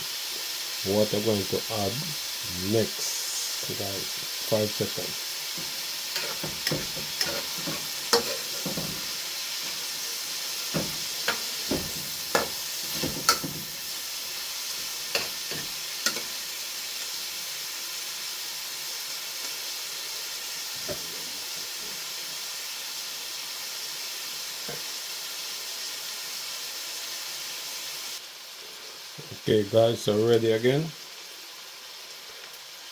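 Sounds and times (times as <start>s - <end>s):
food sizzling in a pot: 0.0s - 32.9s.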